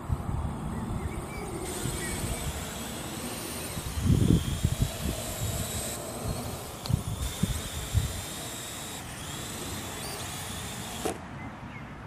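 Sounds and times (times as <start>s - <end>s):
wind buffeting microphone: 0.0s - 11.0s
drone rotors whirring: 0.0s - 11.2s
high motor whine: 0.0s - 11.2s.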